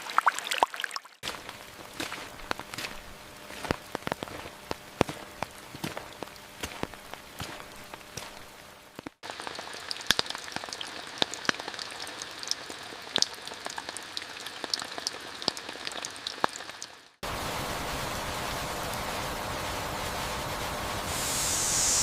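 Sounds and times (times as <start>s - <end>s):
raindrops pattering on a surface: 1.2s - 20.4s
steady hiss of rain: 1.4s - 22.0s.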